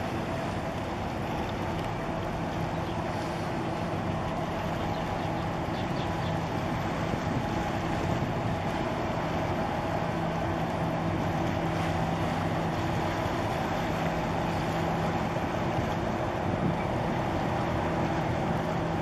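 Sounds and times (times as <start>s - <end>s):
boat engine running: 0.0s - 19.0s
water rushing: 0.0s - 19.0s
wind on microphone: 0.0s - 19.0s.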